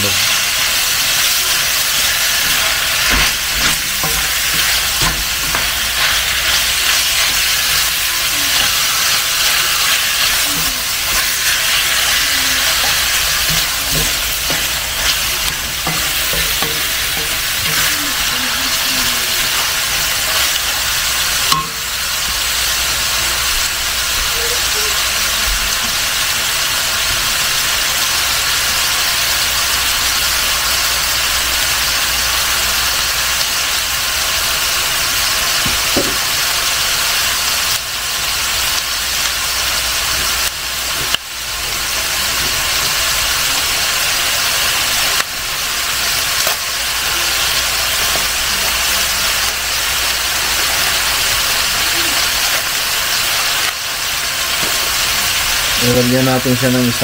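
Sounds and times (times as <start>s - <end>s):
beef and onions sizzling in a pan: 0.0s - 57.0s.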